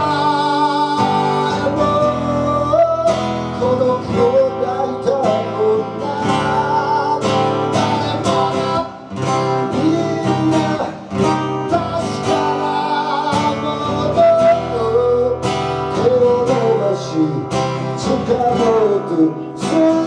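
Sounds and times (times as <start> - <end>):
acoustic guitar strumming: 0.0 - 20.0
person singing: 0.0 - 20.0.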